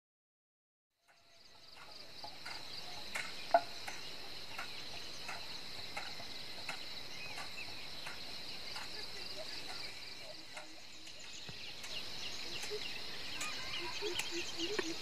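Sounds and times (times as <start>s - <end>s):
high-pitched insect chorus: 1.0s - 15.0s.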